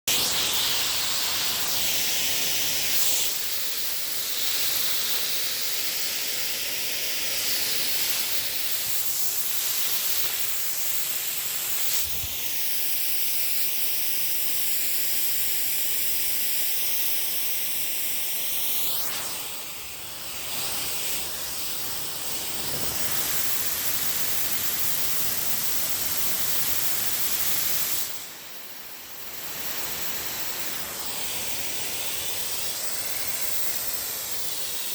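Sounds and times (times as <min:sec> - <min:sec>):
water jetting from hose nozzle: 0:00.0 - 0:34.9.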